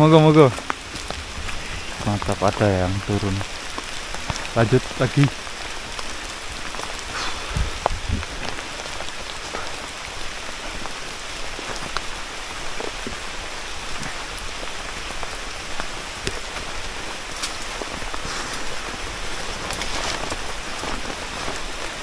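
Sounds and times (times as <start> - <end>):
heavy rain falling: 0.0 - 22.0
sharp taps of raindrops: 0.2 - 22.0.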